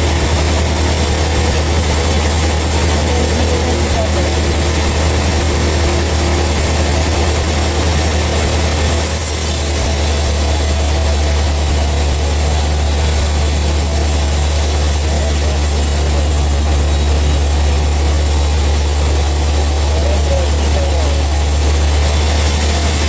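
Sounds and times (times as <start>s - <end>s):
sawmill machinery engine humming: 0.0s - 23.0s.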